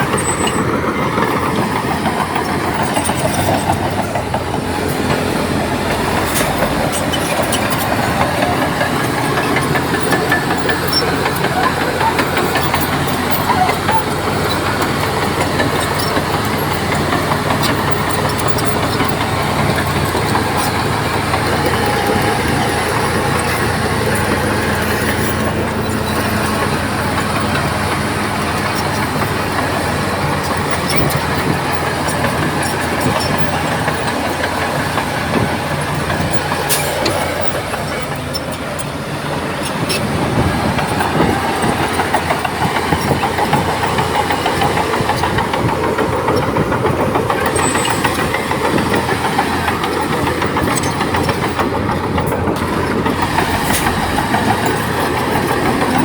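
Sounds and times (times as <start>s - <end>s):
bulldozer diesel engine under load: 0.0s - 56.0s
steel tracks clanking: 0.0s - 56.0s.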